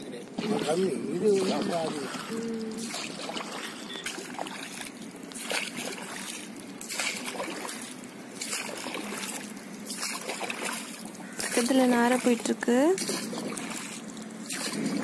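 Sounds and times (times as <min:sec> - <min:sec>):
water splashing against boat hull: 0:00.0 - 0:15.0.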